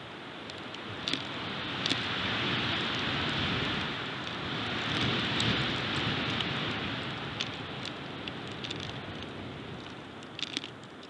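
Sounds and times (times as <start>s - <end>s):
wind rushing through pines: 0.0s - 11.0s
faint ticks: 0.4s - 3.1s, 3.7s - 11.0s.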